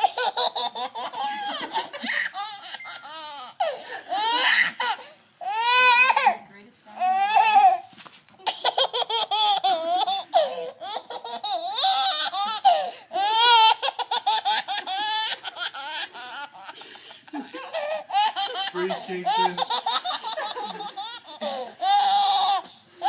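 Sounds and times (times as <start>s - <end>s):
baby laughing hysterically: 0.0s - 6.3s, 8.4s - 22.7s.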